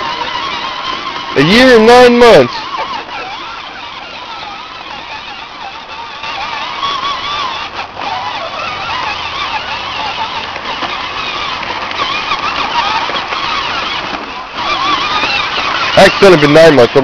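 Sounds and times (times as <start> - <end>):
chorus of wavering honking calls: 0.0 - 16.8.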